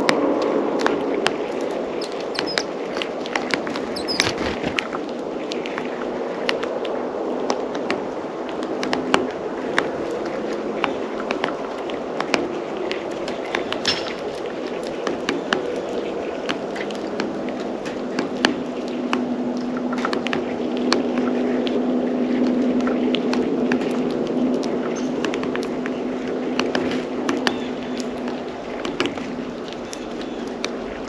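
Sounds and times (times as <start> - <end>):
birds pecking at a feeder: 0.0 - 31.0.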